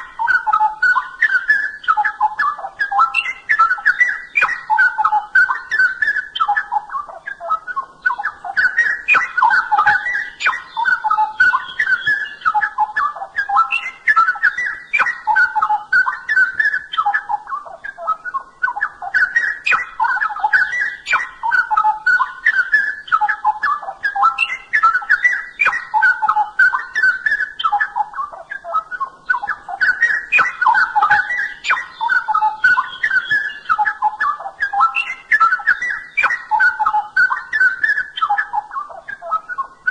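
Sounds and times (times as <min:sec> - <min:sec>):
songbird warbling whistled phrases: 0:00.0 - 0:39.9.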